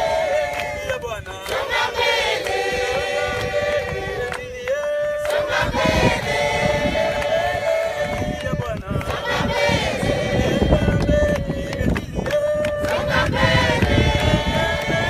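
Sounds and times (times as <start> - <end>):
crowd singing together: 0.0 - 15.0
hand-clapping: 0.0 - 15.0.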